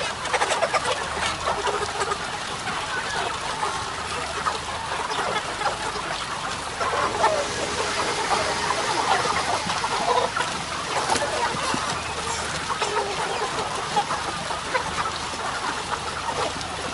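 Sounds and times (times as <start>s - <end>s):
chickens peeping and clucking: 0.0s - 16.9s.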